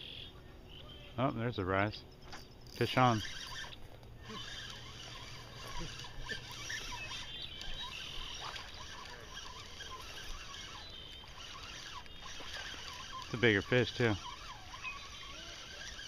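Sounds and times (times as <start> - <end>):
fishing reel cranking: 2.4 - 16.0.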